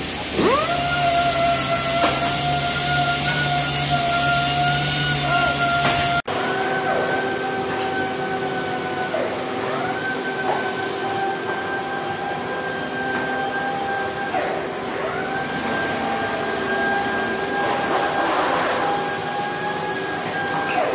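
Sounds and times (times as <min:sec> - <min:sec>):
machinery hum: 0:00.0 - 0:20.8
power tool motor whining: 0:00.0 - 0:20.9.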